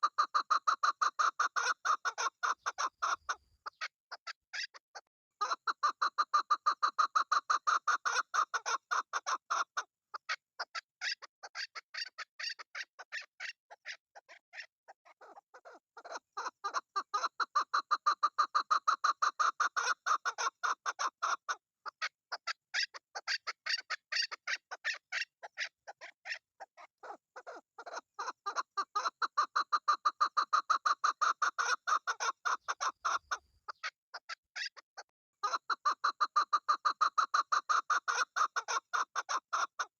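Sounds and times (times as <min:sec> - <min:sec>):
partridge calling: 0:00.0 - 0:39.9.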